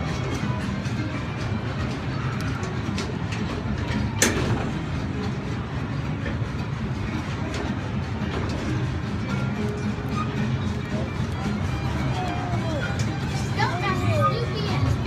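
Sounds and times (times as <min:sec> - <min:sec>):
ride train rumbling on track: 0:00.0 - 0:15.0
wheels clicking on rails: 0:00.0 - 0:15.0.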